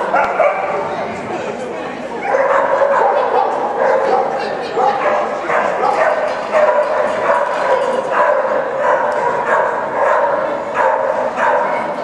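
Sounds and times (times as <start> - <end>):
dog barking: 0.1 - 0.7, 2.2 - 11.9.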